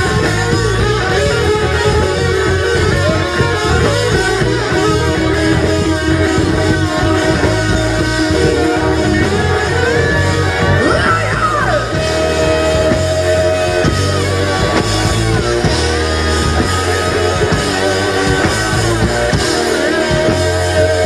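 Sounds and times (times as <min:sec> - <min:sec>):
distorted electric guitars: 0:00.0 - 0:21.0
rock band playing loudly: 0:00.0 - 0:21.0.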